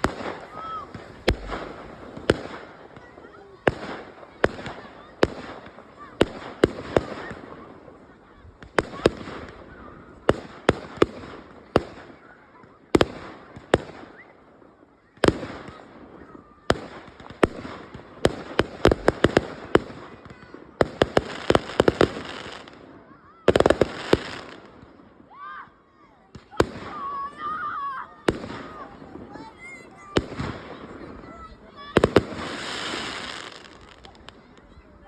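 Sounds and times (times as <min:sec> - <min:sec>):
fireworks bursting with bangs: 0:00.0 - 0:25.4, 0:26.2 - 0:35.0.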